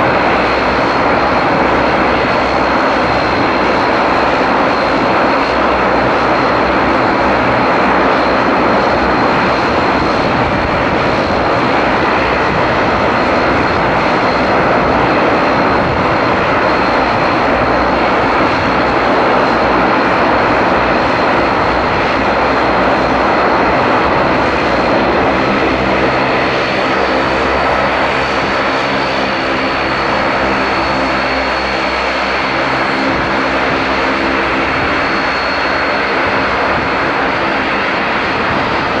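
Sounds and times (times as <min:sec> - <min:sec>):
high turbine whine: 0:00.0 - 0:39.0
propeller drone with clear tones: 0:00.0 - 0:39.0
turboprop engines running: 0:00.0 - 0:39.0.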